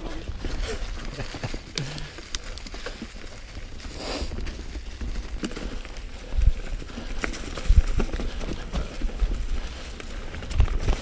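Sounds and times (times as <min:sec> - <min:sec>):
tyres crunching through leaves: 0:00.0 - 0:11.0.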